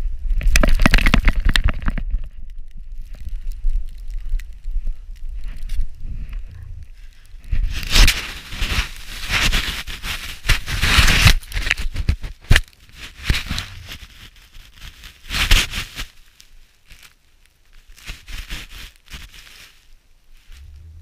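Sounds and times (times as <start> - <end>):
rustling against microphone: 0.2 - 21.0.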